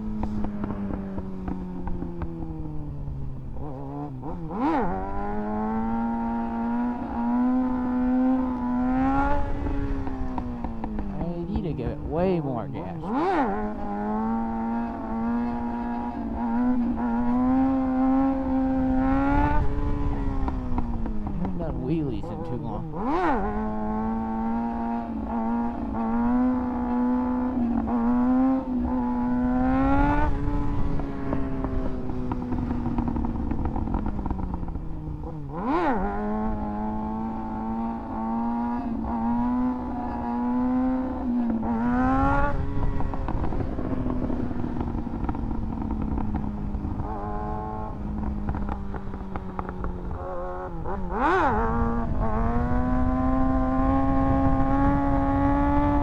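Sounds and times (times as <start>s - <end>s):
motorcycle engine revving: 0.0s - 12.4s, 13.0s - 21.8s, 22.4s - 56.0s.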